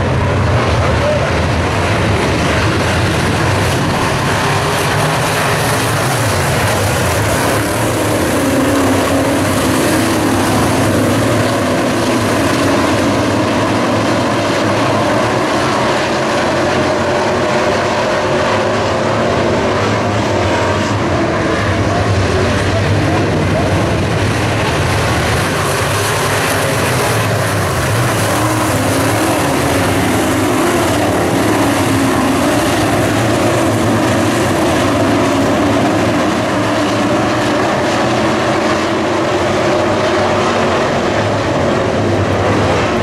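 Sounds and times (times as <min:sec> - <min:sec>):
race car engines roaring: 0:00.0 - 0:43.0.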